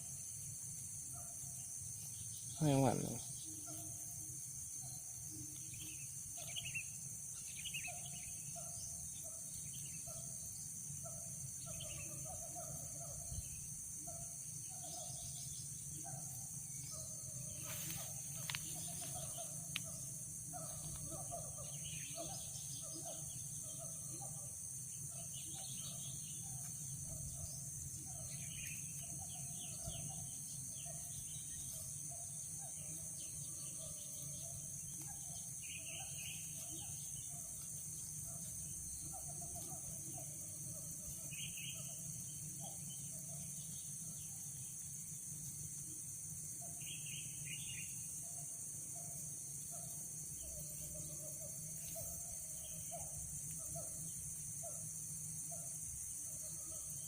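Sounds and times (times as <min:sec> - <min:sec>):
high-pitched insect hum: 0:00.0 - 0:57.0
wild birds chirping: 0:00.0 - 0:57.0.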